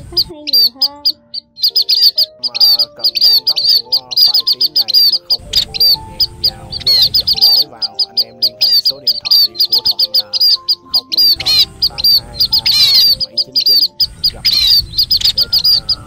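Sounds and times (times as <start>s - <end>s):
birds chirping rapidly: 0.0s - 16.0s
soft background music: 0.0s - 16.0s.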